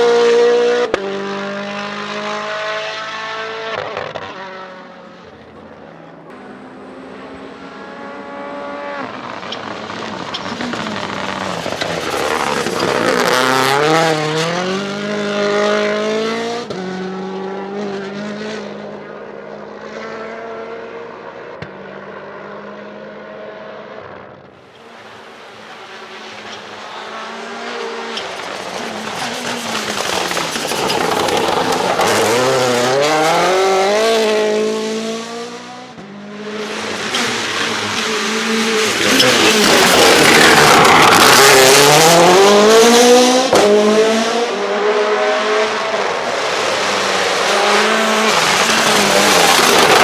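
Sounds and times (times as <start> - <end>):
rally car engine at full throttle: 0.0 - 50.0.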